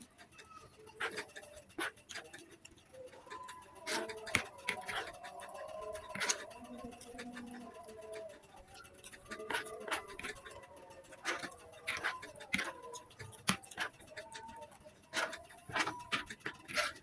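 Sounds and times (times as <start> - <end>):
chewing: 0.0 - 17.0
spoon scraping a plate: 0.9 - 2.5, 3.2 - 17.0.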